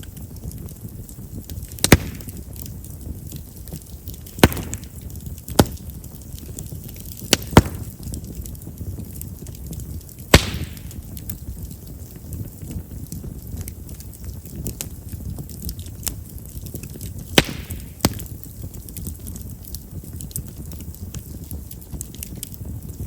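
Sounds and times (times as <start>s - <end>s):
campfire flame rumble: 0.0s - 23.0s
firewood popping and snapping: 0.0s - 23.0s.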